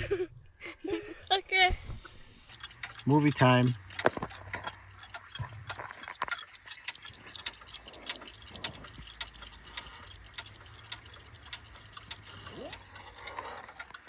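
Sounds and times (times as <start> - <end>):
small clicks and taps: 1.7 - 14.0.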